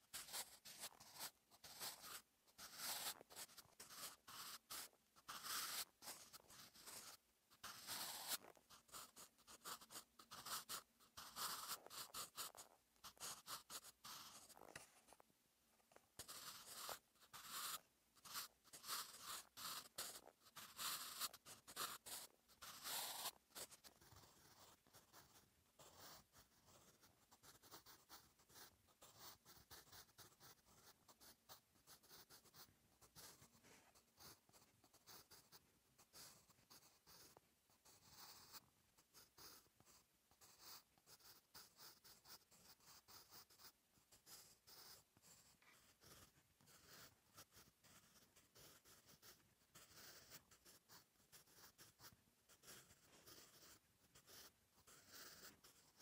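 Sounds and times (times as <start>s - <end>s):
pencil scratching on paper: 0.0s - 56.0s.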